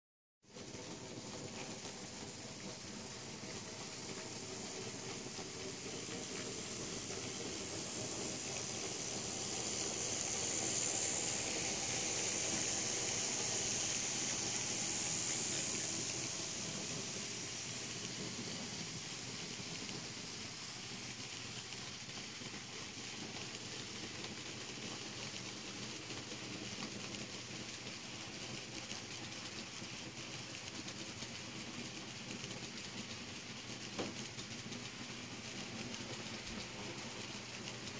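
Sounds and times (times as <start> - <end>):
model train motors whirring: 0.5 - 37.9
model train wheels rolling on rails: 0.5 - 37.9.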